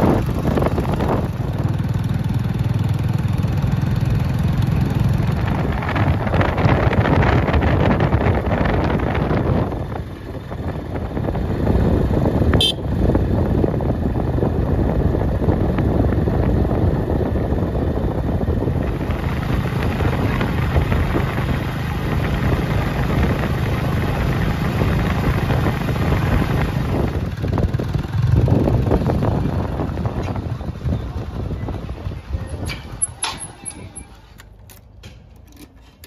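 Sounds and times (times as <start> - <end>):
wind on microphone: 0.0 - 2.0, 4.8 - 34.1
motorcycle engine running: 0.0 - 33.8.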